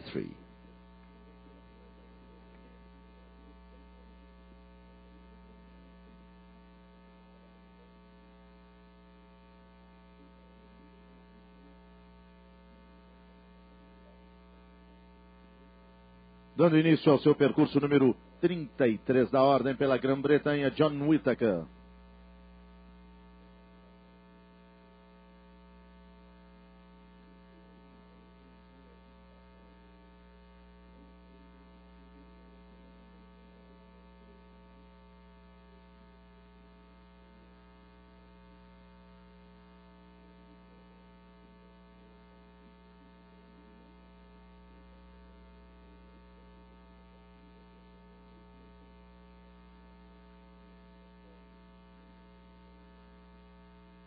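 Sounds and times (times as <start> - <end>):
mains hum: 0.0 - 54.0.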